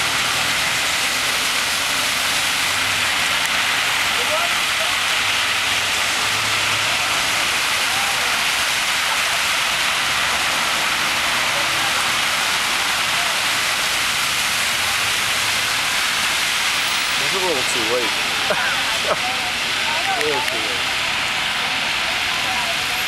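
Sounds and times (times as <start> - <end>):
cars driving through water: 0.0 - 23.0
heavy rain on flooded pavement: 0.0 - 23.0.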